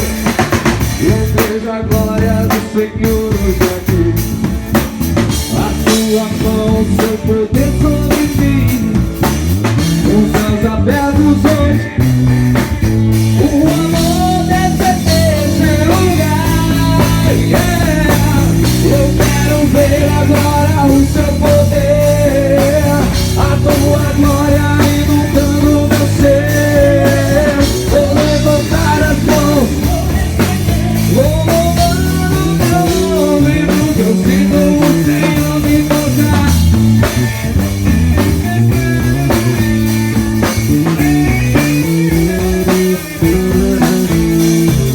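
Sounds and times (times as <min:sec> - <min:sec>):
gospel rock band playing: 0:00.0 - 0:44.9.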